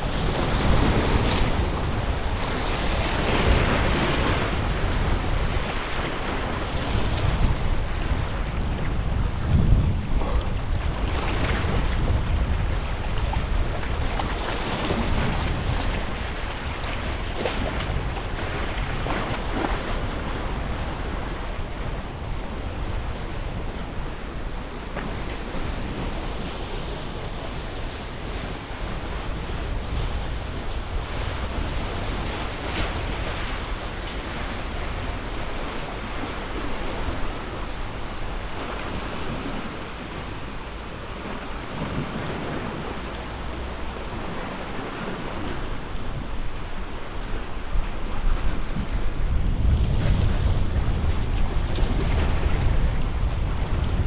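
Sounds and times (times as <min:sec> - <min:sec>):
lake waves splashing and lapping: 0:00.0 - 0:54.0
wind rumbling on microphone: 0:00.0 - 0:54.0.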